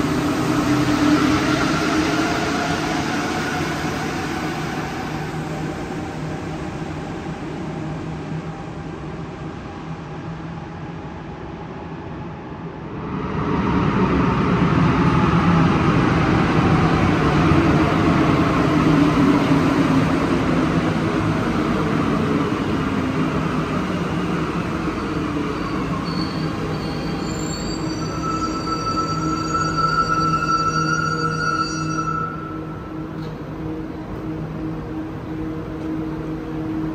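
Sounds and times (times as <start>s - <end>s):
metro train running noise: 0.0s - 36.9s.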